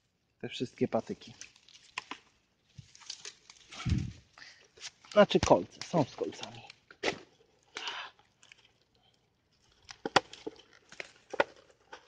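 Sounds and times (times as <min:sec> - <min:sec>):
branches rustling and snapping: 0:01.0 - 0:08.9, 0:09.5 - 0:12.0.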